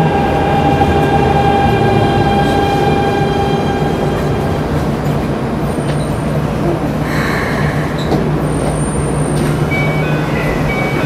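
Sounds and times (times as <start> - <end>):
electric train hum and rumble: 0.0 - 11.0.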